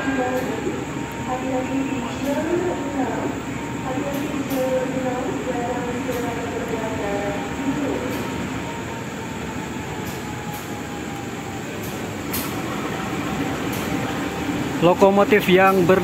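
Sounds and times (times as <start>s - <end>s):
locomotive engine drone: 0.0s - 16.0s.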